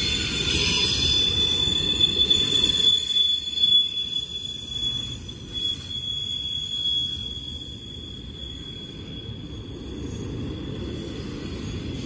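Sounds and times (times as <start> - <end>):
freight train rumble: 0.0 - 12.0
high-pitched wheel squeal: 0.0 - 12.0.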